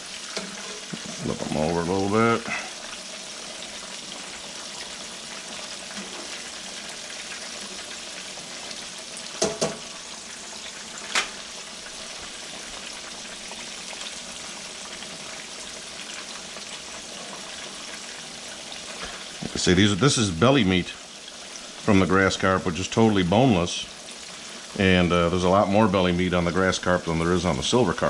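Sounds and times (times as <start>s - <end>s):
fish deep-frying in oil: 0.0s - 28.0s.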